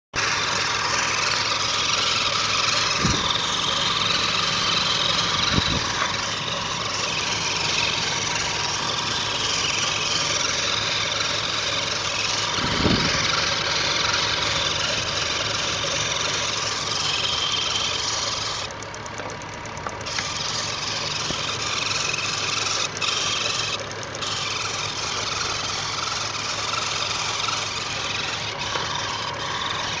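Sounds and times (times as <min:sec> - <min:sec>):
mechanical engine-like noise: 0:00.2 - 0:30.0.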